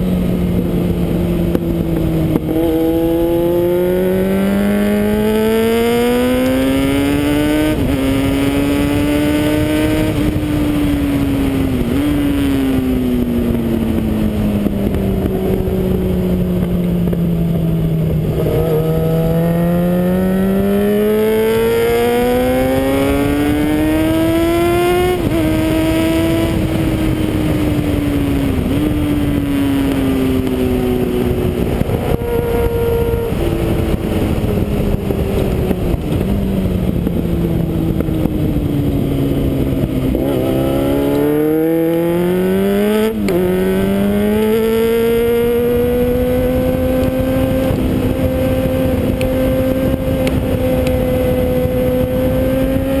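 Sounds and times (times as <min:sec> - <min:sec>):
motorcycle engine revving: 0:00.0 - 0:53.0
wind rushing: 0:00.0 - 0:53.0.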